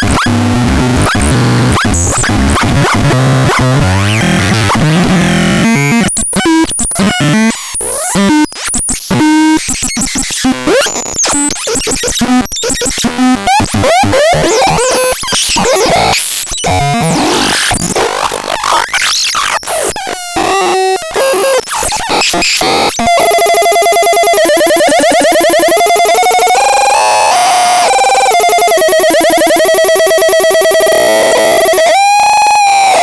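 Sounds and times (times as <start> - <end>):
chaotic synthesizer tones: 0.0 - 8.4, 13.0 - 19.8, 20.4 - 33.0.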